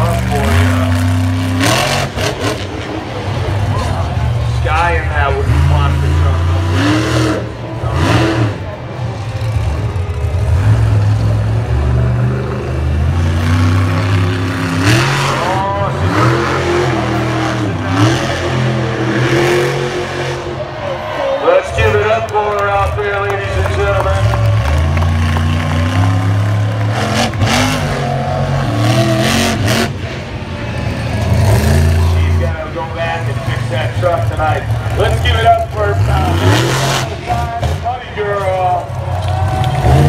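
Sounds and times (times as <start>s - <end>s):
truck engine running low: 0.0s - 40.0s.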